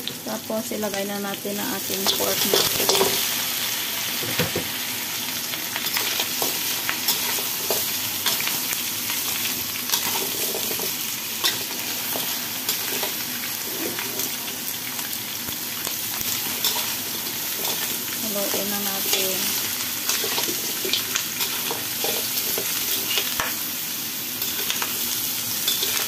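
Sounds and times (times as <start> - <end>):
meat sizzling in hot oil: 0.0 - 26.0.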